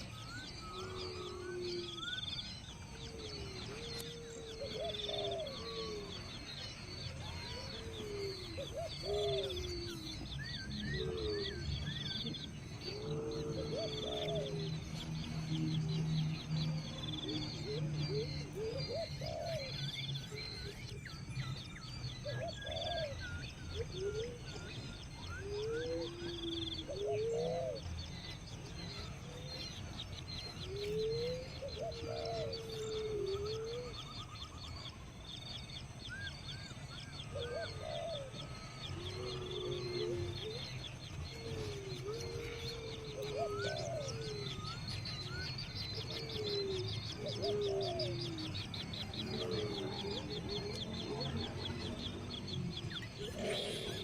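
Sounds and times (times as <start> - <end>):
bird cooing: 0.0 - 54.0.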